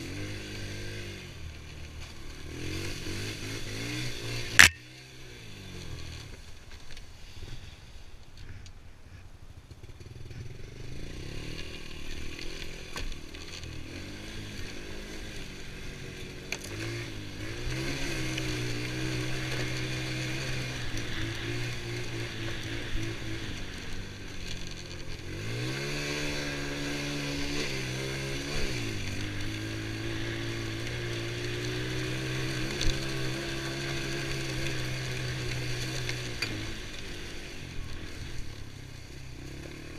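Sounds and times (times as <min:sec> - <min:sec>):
atv engine revving: 0:00.0 - 0:06.5, 0:09.4 - 0:39.9.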